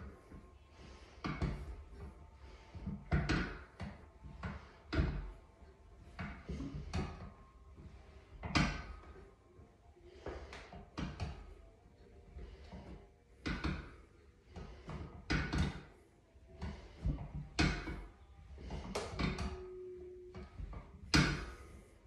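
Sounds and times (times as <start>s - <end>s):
exercise machine knocks and clunks: 0.0s - 9.3s, 10.2s - 22.0s.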